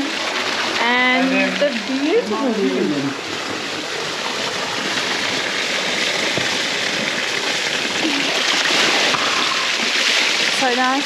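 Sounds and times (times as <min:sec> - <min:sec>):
creek water falling and splashing: 0:00.0 - 0:11.0.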